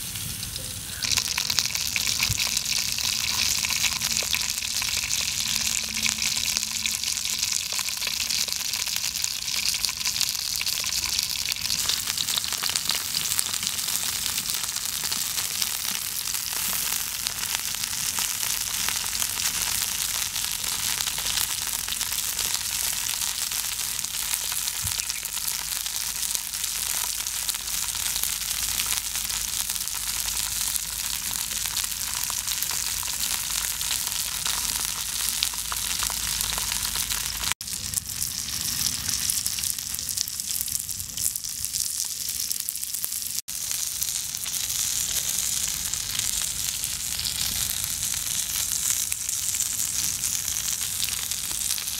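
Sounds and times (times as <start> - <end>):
fish sizzling in a pan: 0.0 - 51.9.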